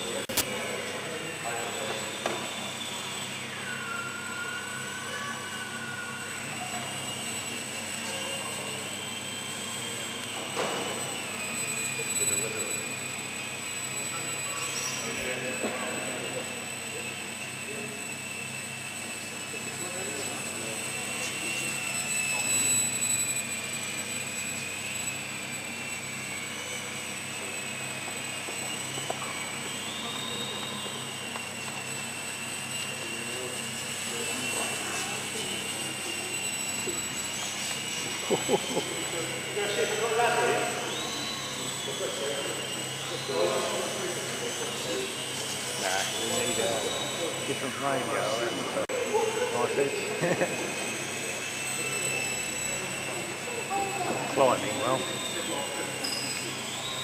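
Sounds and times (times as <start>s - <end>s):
model airplane motor whining: 0.0s - 57.0s.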